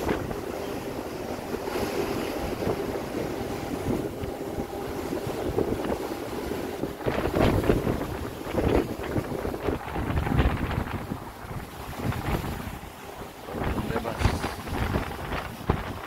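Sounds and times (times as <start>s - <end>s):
sea waves rushing: 0.0s - 16.0s
wind buffeting microphone: 0.0s - 16.0s.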